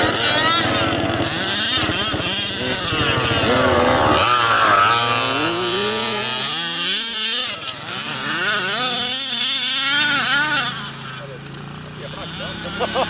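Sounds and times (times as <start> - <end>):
small two-stroke engines racing: 0.0 - 13.0.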